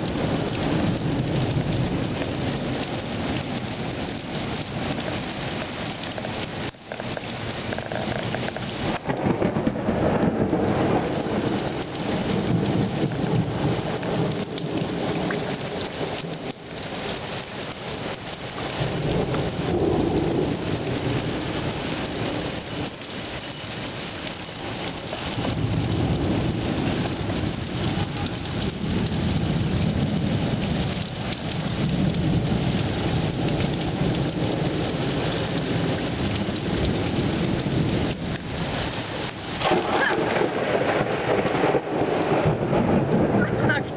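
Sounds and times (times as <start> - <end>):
heavy rain pouring: 0.0 - 43.9
thunder rumbling: 0.0 - 43.9.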